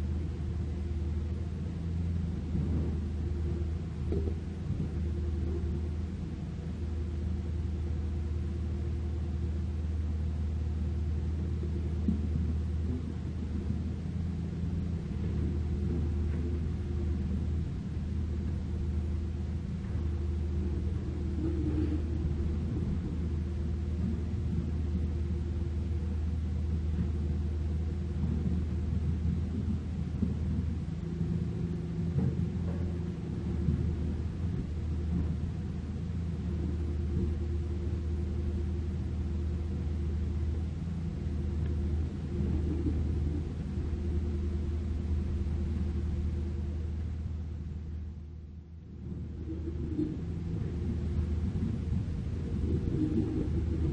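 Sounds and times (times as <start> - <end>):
excavator diesel engine droning: 0.0 - 48.4.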